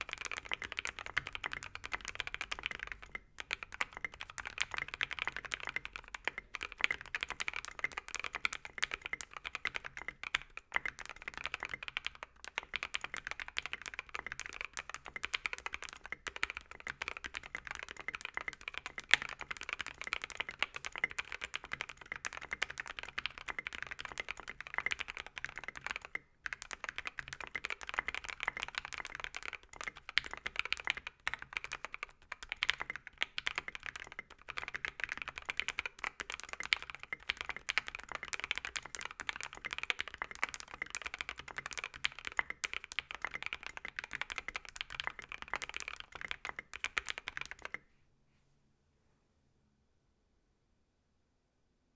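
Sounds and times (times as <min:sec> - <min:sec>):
fast mechanical keyboard typing: 0:00.0 - 0:47.8.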